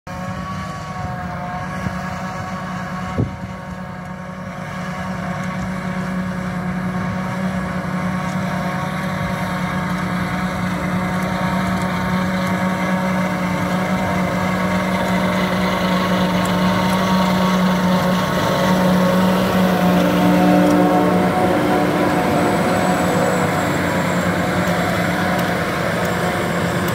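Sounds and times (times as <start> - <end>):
forage harvester engine and chopper drone: 0.1 - 26.9
tractor running: 0.1 - 26.9.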